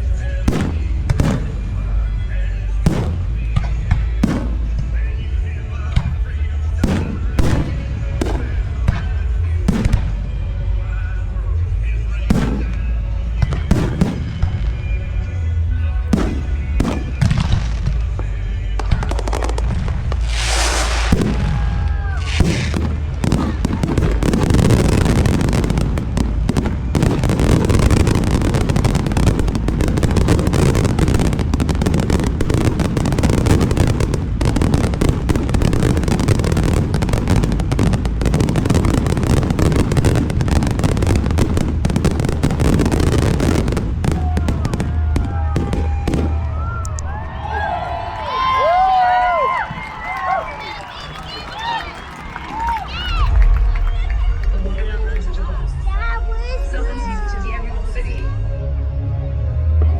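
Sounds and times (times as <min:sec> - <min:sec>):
fireworks bursts and booms: 0:00.0 - 0:11.0, 0:11.8 - 0:47.1, 0:48.6 - 0:57.4.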